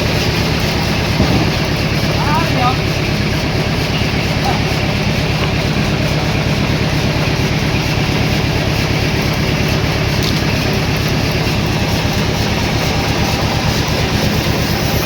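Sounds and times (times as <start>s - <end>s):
sawmill machinery droning: 0.0s - 15.0s.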